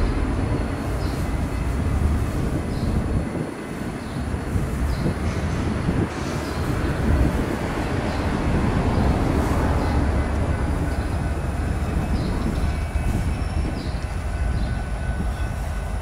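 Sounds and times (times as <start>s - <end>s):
locomotive engine rumble: 0.0s - 16.0s.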